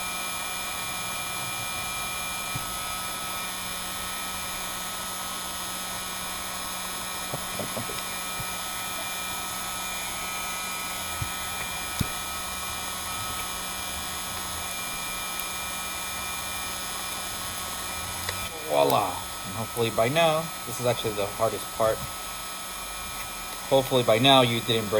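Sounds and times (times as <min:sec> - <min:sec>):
heat gun blowing whir: 0:00.0 - 0:24.9.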